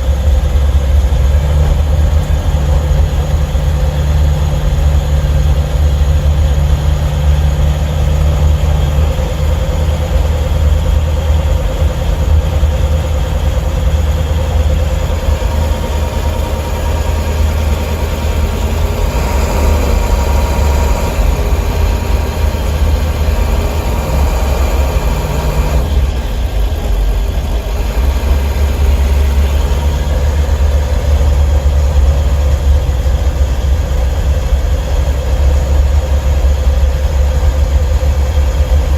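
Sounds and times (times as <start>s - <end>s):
diesel engine running while driving: 0.0s - 38.9s.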